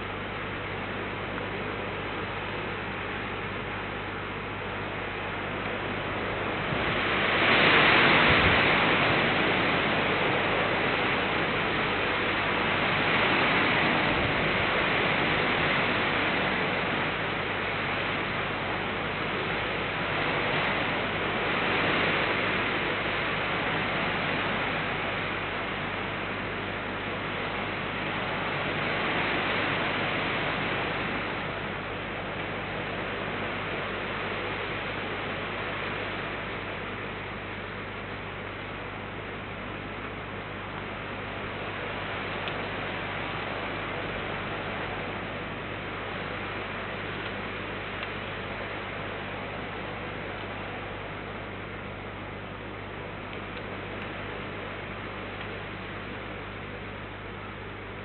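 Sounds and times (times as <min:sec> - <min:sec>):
low hum: 0:00.0 - 0:58.0
rain hiss: 0:00.0 - 0:58.0.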